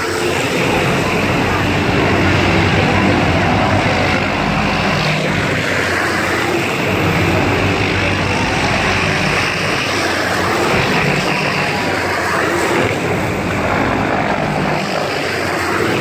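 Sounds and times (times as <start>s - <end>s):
helicopter rotor and turbine noise: 0.0s - 16.0s.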